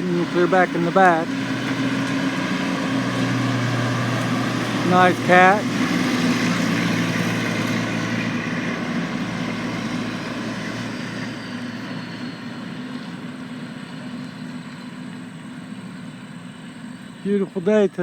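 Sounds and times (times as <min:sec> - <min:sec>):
heavy machinery engine hum: 0:00.0 - 0:18.0.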